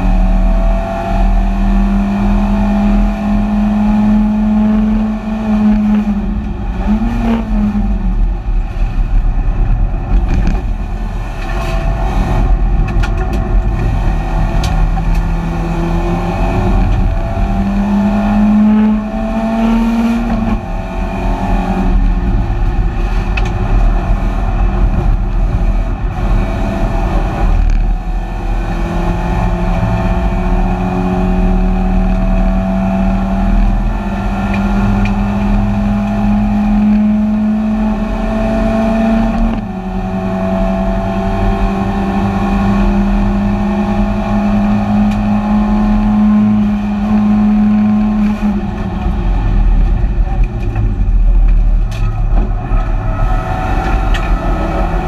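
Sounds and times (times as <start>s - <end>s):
race car engine at high revs: 0.0s - 55.0s
road and wind noise: 0.0s - 55.0s.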